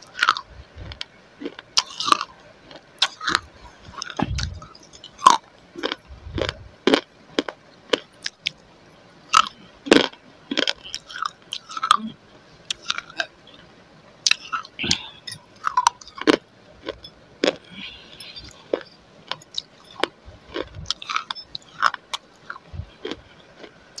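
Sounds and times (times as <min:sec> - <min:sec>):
person chewing crunchy clay: 0:00.0 - 0:08.6, 0:09.3 - 0:12.1, 0:12.7 - 0:13.3, 0:14.3 - 0:24.0.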